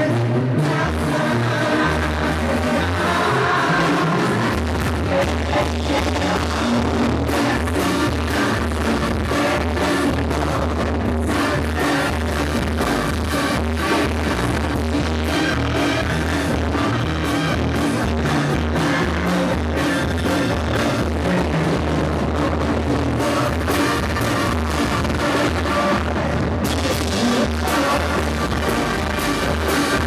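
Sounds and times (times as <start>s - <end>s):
lead singer singing: 0.0s - 30.0s
live brass band music: 0.0s - 30.0s
tuba and drum beat: 0.0s - 30.0s.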